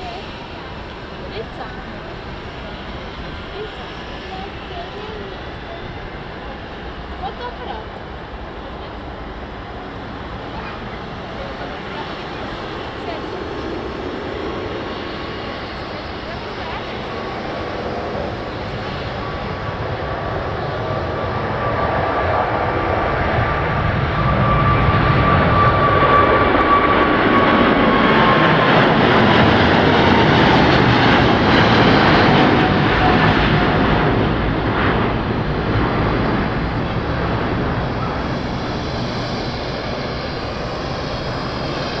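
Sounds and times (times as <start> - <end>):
jet engines passing by: 0.0 - 42.0.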